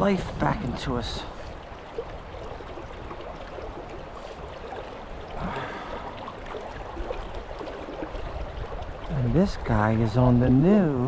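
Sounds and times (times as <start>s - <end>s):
fast river current rushing: 0.0s - 11.0s.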